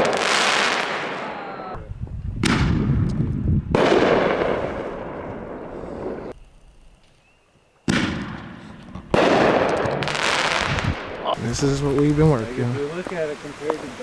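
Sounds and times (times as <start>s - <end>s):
fireworks bangs: 0.0s - 6.4s, 7.8s - 14.0s.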